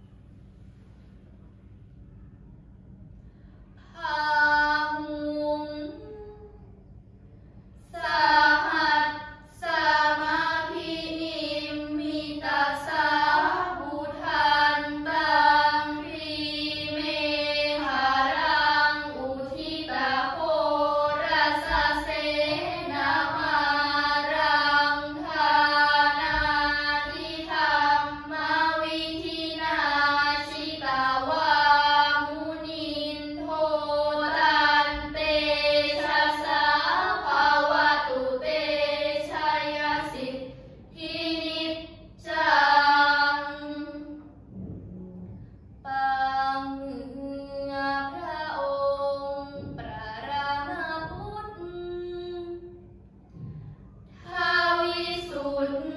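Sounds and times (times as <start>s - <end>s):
girls chanting prayers in unison: 3.3s - 6.8s, 7.4s - 55.9s.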